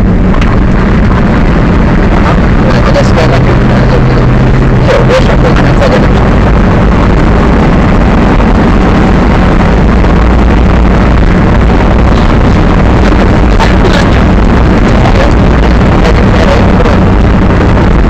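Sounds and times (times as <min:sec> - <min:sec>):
monster truck engine running: 0:00.0 - 0:18.0.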